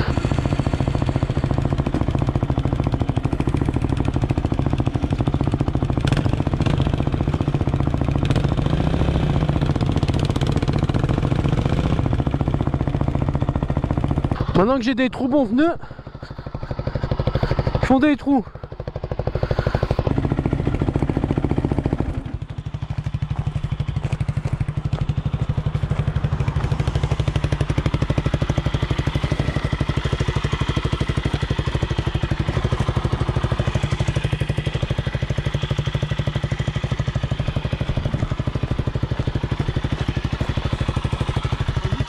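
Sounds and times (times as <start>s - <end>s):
quad bike engine idling: 0.0s - 42.0s.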